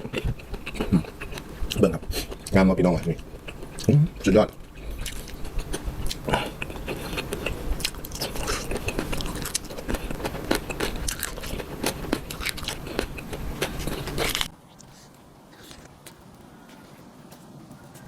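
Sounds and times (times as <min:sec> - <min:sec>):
person chewing and crunching food: 0:00.0 - 0:18.0.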